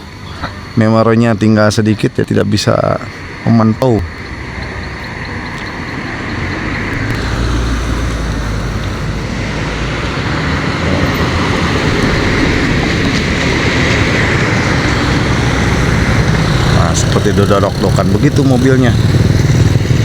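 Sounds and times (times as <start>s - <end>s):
road noise: 0.0s - 20.0s
vehicle engine drone: 0.0s - 20.0s.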